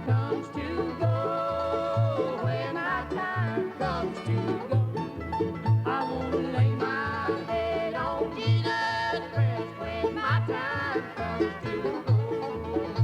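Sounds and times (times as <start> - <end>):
banjo: 0.0 - 13.0
bluegrass country music: 0.0 - 13.0.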